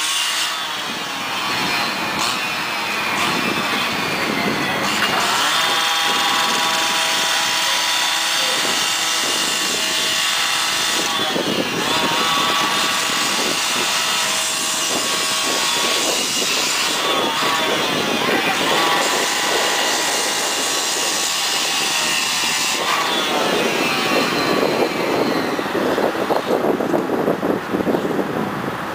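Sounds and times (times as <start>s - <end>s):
saw cutting metal: 0.0s - 26.7s.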